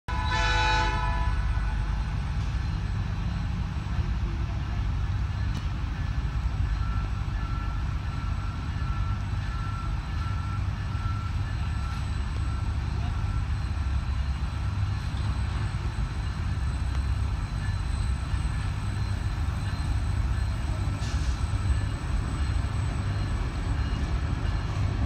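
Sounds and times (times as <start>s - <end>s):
freight train rumbling: 0.1s - 25.0s.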